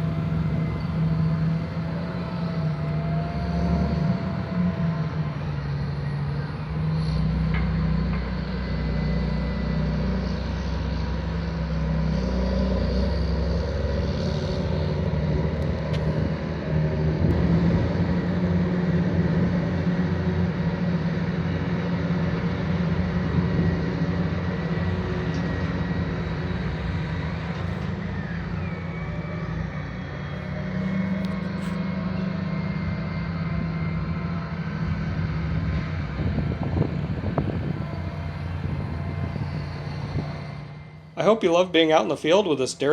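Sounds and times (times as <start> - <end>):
diesel tractor engines running: 0.0 - 42.9.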